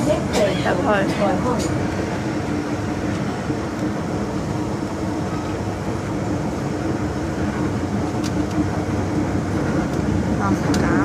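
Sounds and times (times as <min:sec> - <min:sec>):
wheel-on-rail rumble: 0:00.0 - 0:11.0.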